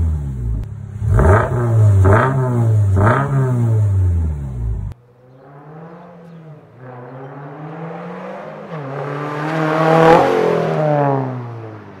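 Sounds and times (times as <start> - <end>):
car accelerating through gears: 1.0 - 4.3, 5.3 - 12.0.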